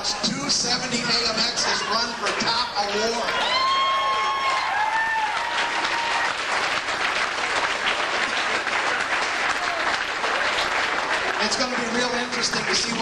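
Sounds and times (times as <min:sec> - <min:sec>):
audience applauding: 0:01.4 - 0:13.0.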